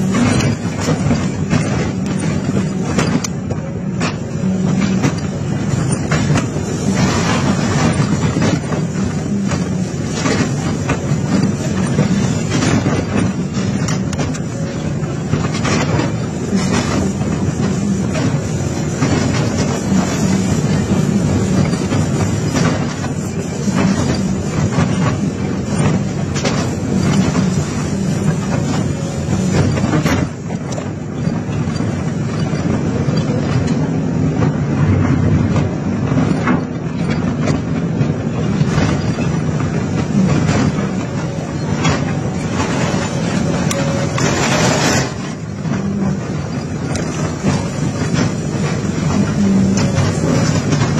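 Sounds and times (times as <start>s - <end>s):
excavator diesel engine running: 0.0s - 50.9s
torn steel scraping: 0.0s - 50.9s.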